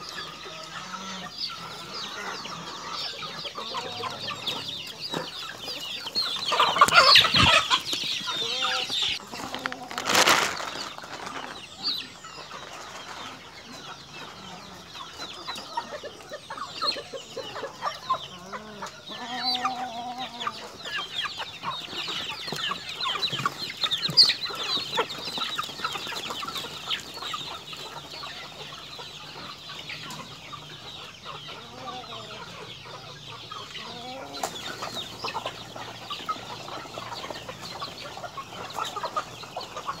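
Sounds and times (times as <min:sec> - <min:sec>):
chickens clucking: 0:00.0 - 0:40.0.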